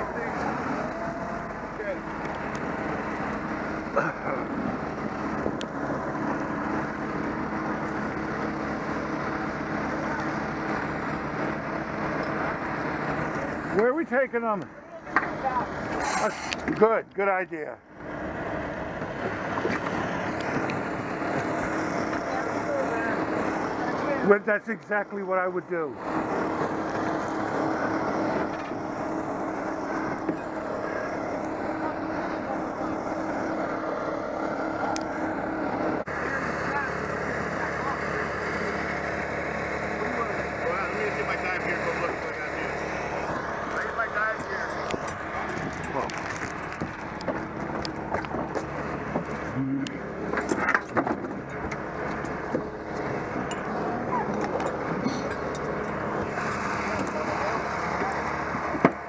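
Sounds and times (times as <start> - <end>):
boat engine humming: 0.0 - 59.0
motor running steadily: 0.0 - 59.0.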